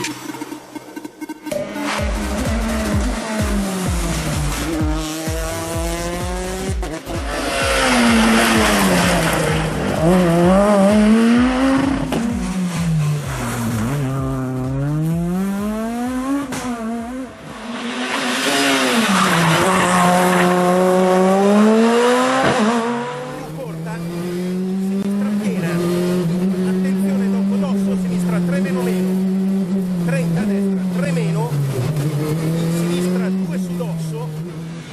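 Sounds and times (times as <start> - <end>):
rally car engine revving: 0.0 - 34.9.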